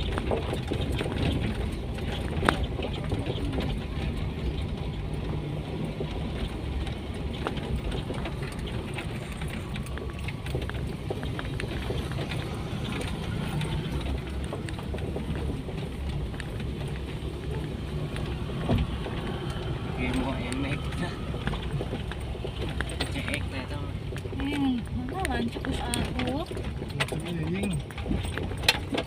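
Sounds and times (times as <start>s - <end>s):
car engine running: 0.0s - 29.0s
small rattles: 0.0s - 29.0s.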